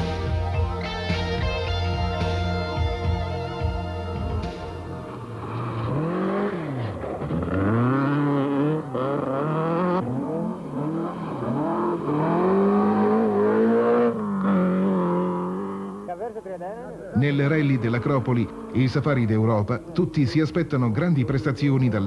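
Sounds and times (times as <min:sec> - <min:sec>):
rally car engines at full throttle: 0:00.0 - 0:22.0.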